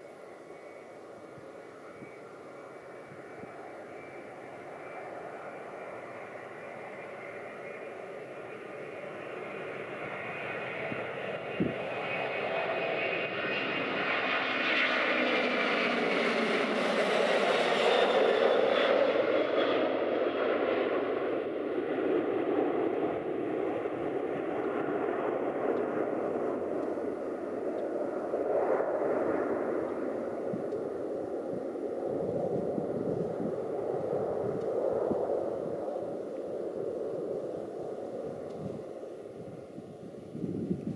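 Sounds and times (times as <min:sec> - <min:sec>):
jet engine whine: 0:00.0 - 0:40.9
jet engines roaring at takeoff: 0:00.0 - 0:40.9.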